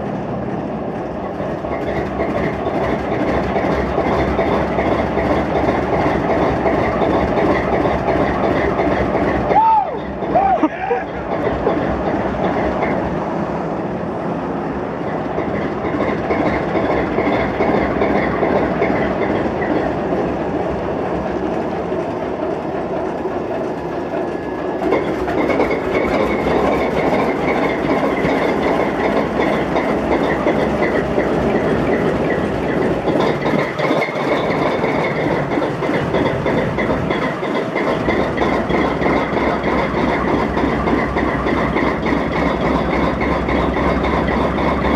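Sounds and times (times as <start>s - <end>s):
diesel locomotive engine running roughly: 0.0s - 44.9s.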